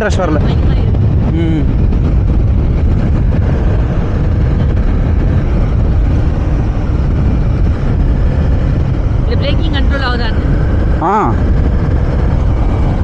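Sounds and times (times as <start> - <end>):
motorcycle engine running: 0.0 - 13.0
wind rumble on microphone: 0.0 - 13.0.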